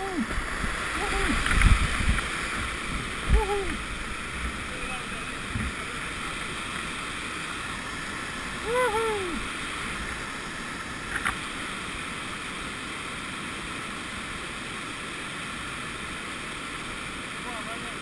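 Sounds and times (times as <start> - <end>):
rushing river rapids: 0.0 - 18.0.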